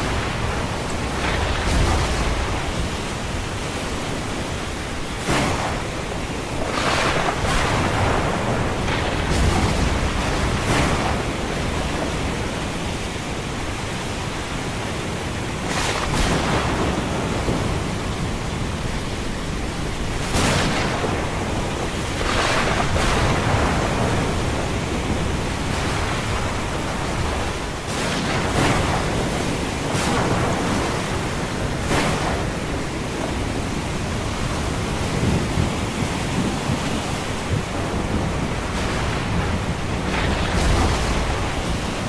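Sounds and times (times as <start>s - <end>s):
low rumble of thunder: 0.0s - 13.3s, 15.6s - 42.0s
ocean surf: 0.0s - 42.0s
rain: 0.0s - 42.0s
waves breaking: 0.0s - 42.0s.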